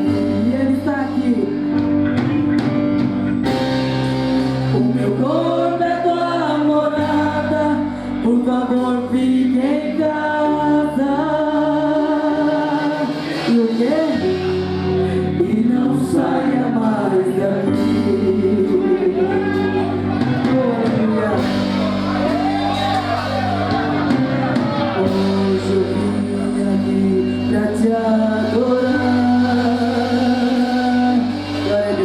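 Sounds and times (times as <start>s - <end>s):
voices singing worship song: 4.1s - 32.0s.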